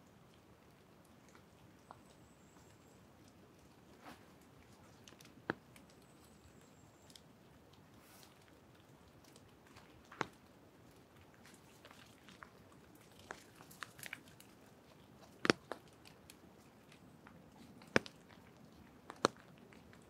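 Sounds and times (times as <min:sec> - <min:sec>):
faint steady hiss: 0:00.0 - 0:20.0
rain drips: 0:00.0 - 0:20.0
sharp crunchy snaps: 0:00.2 - 0:20.0.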